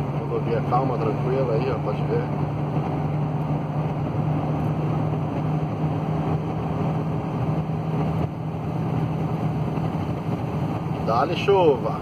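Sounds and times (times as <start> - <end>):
tyre and road noise: 0.0 - 12.0
van engine hum: 0.0 - 12.0.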